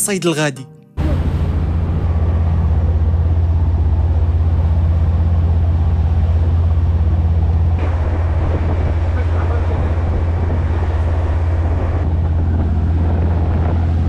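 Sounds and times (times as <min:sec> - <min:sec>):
boat engine droning: 0:00.9 - 0:14.0.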